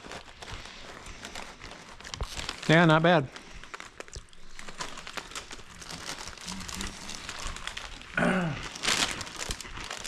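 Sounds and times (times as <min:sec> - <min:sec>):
crunchy snacks being chewed: 0:00.0 - 0:10.0
snack bag crinkling: 0:00.0 - 0:10.0.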